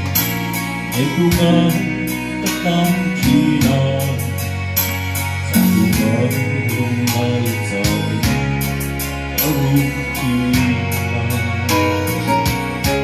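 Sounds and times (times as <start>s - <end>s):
guitar: 0.0s - 13.0s
steady beat: 0.0s - 13.0s
man singing gospel song: 0.9s - 4.8s, 5.4s - 13.0s.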